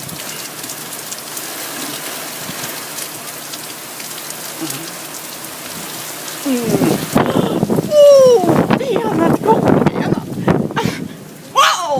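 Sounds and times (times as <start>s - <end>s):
raindrops ticking close by: 0.0s - 11.6s
rain pouring down: 0.0s - 11.9s.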